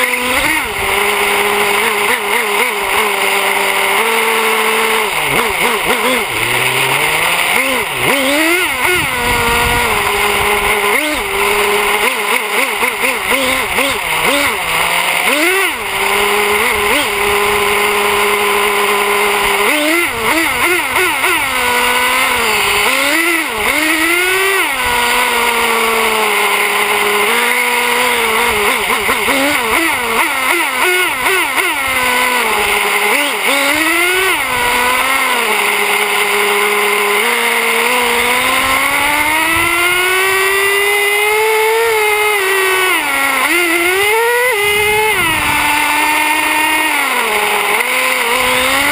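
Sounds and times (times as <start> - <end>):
rc truck engine revving: 0.0 - 48.9.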